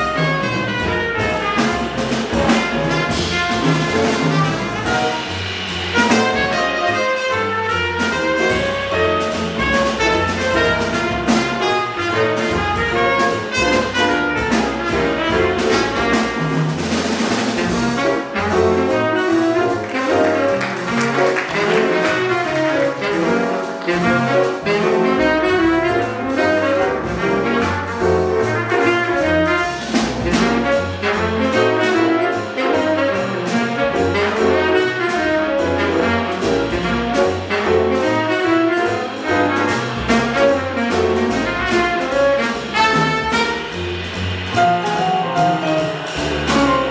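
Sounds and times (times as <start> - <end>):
double bass: 0.0 - 46.9
drums with busy cymbals: 0.0 - 46.9
piano: 0.0 - 46.9
trumpet: 0.0 - 46.9.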